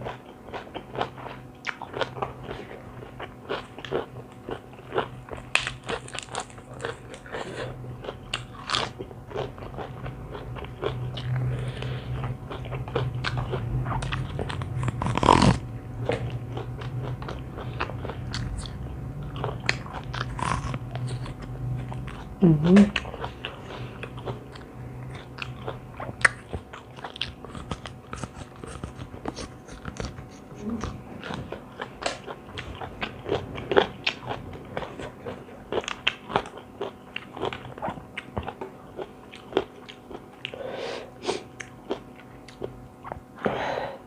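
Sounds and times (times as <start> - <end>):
person chewing crunchy food: 0.0 - 43.4.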